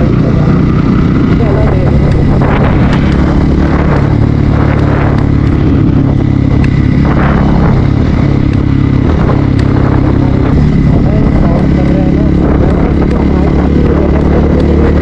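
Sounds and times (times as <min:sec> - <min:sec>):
motorcycle engine running: 0:00.0 - 0:15.0
rushing noise: 0:00.0 - 0:15.0.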